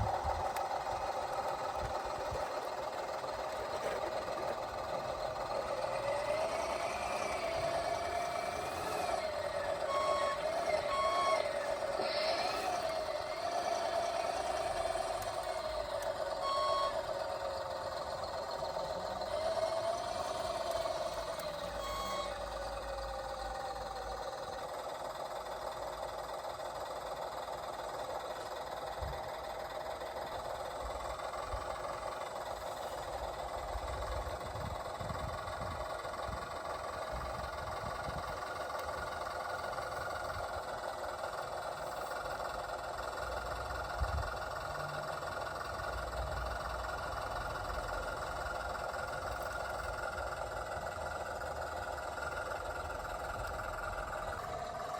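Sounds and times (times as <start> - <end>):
model vehicle motor whir: 0.0 - 54.9.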